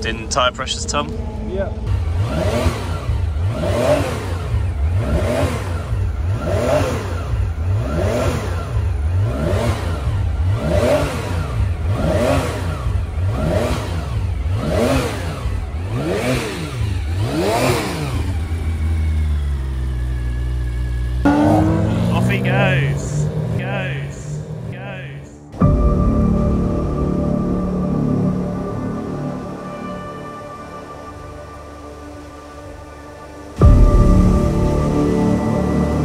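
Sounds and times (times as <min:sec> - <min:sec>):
car engine revving and idling: 0:00.0 - 0:36.0.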